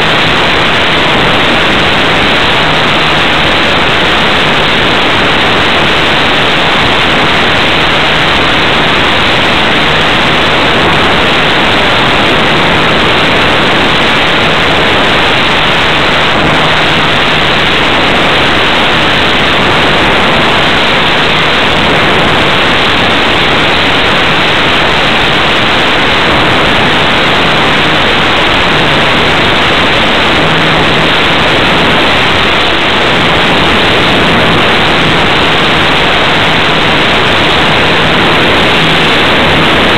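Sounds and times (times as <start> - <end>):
wind rushing past microphone: 0.0 - 39.9.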